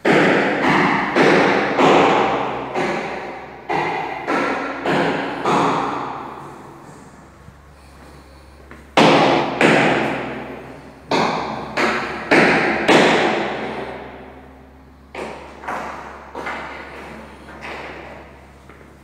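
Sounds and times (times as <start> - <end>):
sharp knocks with ringing echo: 0.0 - 7.2, 8.1 - 18.8.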